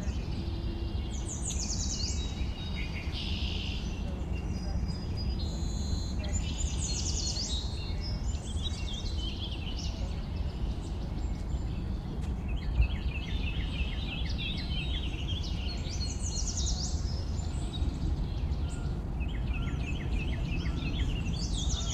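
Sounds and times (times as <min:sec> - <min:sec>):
bird chirping: 0:00.0 - 0:21.9
low wind rumble: 0:00.0 - 0:21.9.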